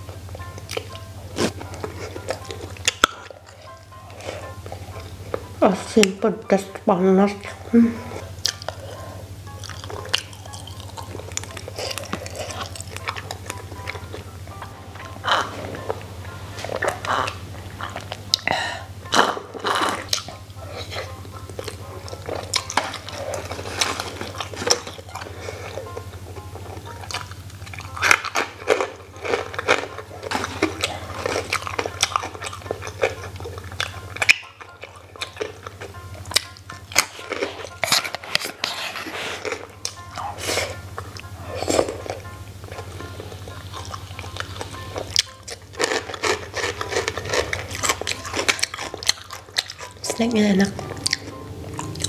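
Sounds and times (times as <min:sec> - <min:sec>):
background music: 0:00.0 - 0:52.0
chewing: 0:00.0 - 0:52.0.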